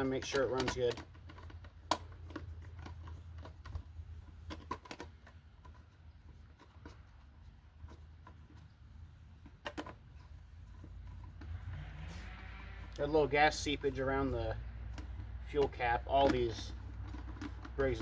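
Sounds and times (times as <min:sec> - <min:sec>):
parts clicking and tapping: 0:00.0 - 0:08.7, 0:09.4 - 0:12.0, 0:12.8 - 0:18.0.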